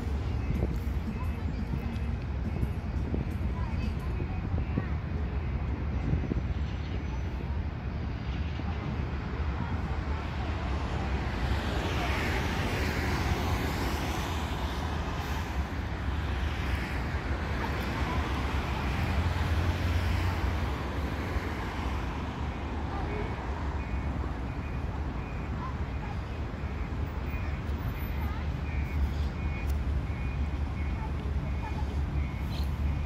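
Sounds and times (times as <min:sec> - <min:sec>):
road traffic: 0:00.0 - 0:33.0.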